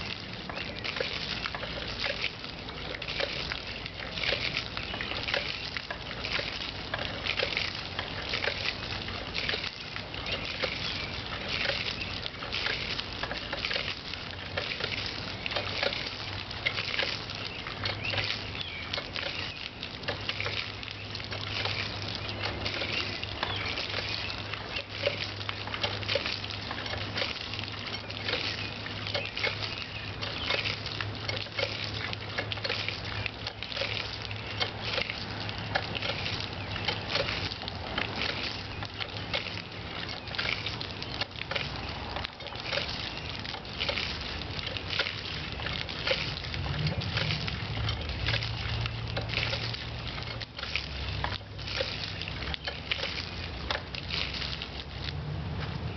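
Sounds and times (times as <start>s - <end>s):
hand pump water splashing: 0.0s - 55.9s.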